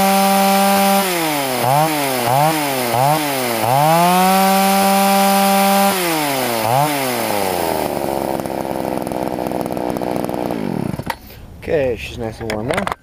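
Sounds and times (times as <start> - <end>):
chainsaw engine revving and idling: 0.0 - 11.2.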